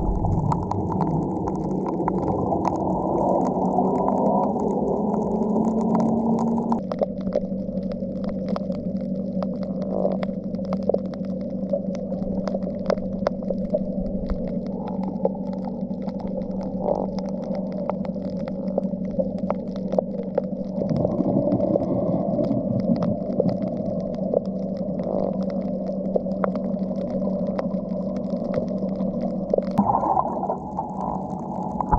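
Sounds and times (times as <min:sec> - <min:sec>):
sharp underwater clicks: 0:00.0 - 0:31.9
underwater low hum: 0:00.0 - 0:31.9.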